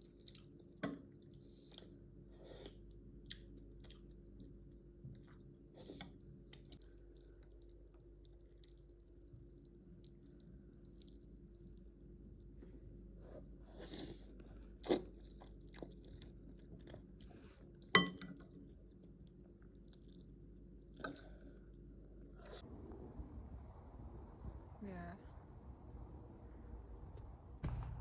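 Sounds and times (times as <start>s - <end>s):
faint room hum: 0.0s - 28.0s.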